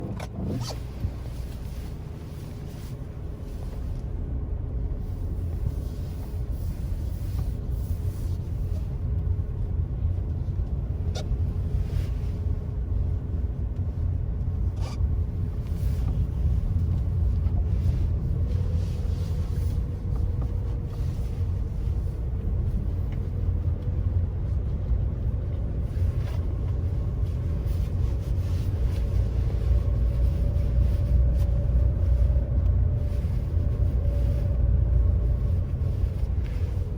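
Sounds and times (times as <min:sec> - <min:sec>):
car driving on road: 0:00.0 - 0:36.9.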